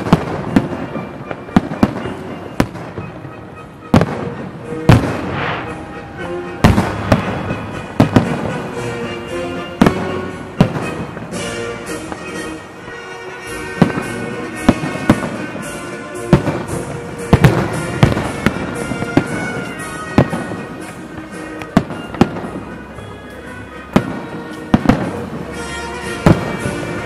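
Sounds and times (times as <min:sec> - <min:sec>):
firework bangs: 0:00.0 - 0:27.0
music playing: 0:00.0 - 0:27.0.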